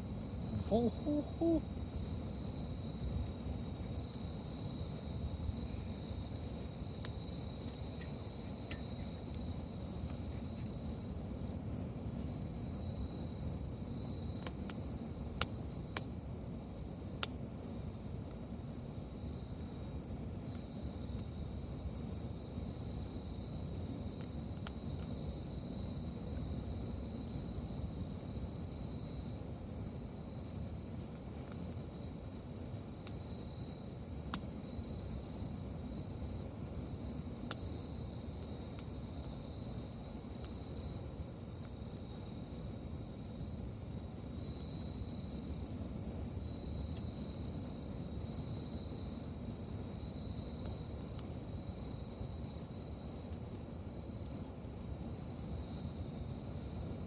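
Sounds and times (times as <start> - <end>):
night insects chirring: 0.0 - 57.0.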